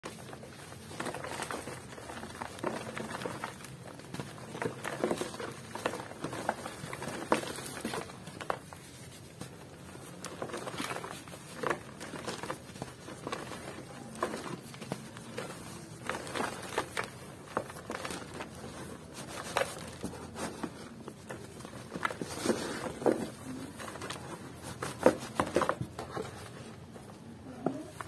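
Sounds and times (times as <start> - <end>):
cement crunching and snapping: 0.0 - 26.2.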